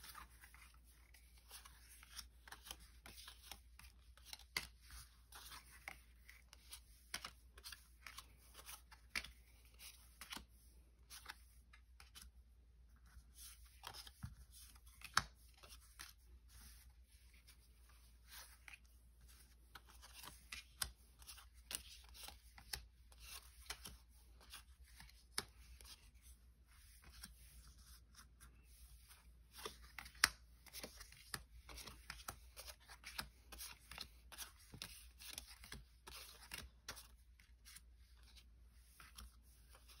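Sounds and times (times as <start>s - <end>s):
cards and wrappers rustling: 0.0s - 40.0s.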